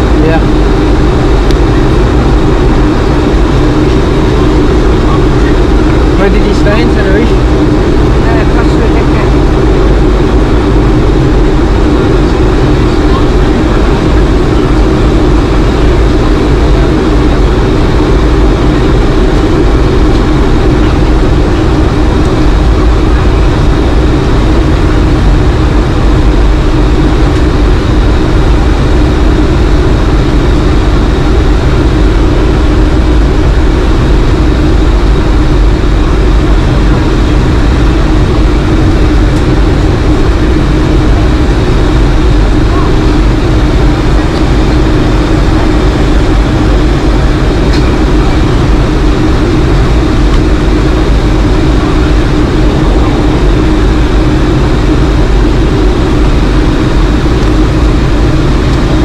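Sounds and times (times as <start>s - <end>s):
jet engines humming: 0.0s - 59.0s.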